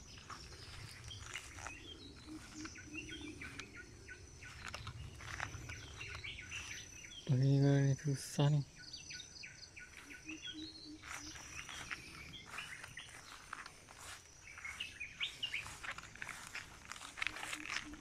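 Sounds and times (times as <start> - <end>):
leaves and twigs rustling: 0.0 - 7.2, 9.8 - 18.0
birds chirping: 0.0 - 18.0.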